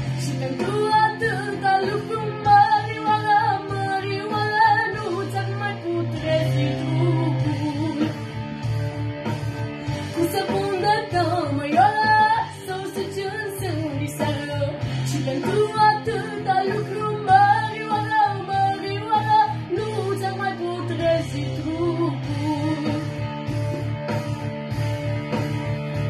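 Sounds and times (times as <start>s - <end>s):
girl singing into a microphone: 0.0s - 8.1s, 10.2s - 23.2s
instrumental backing track: 0.0s - 26.0s.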